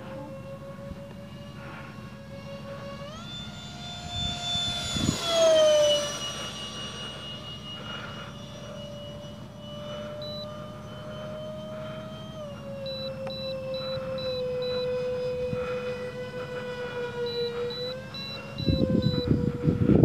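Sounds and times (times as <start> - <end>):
model jet fans whining: 0.0 - 20.0.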